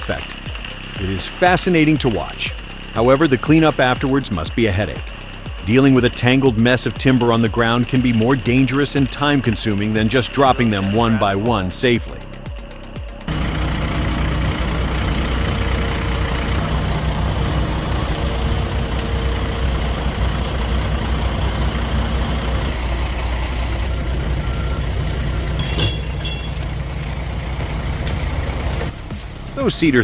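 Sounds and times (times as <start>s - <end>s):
truck diesel engine running: 0.0s - 11.5s, 12.1s - 30.0s.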